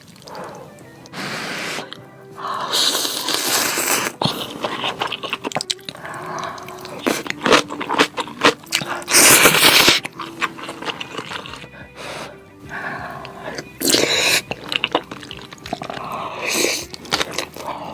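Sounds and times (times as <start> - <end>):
background music: 0.0 - 17.9
loud noodle slurps: 0.0 - 17.9
wet chewing clicks: 0.0 - 17.9.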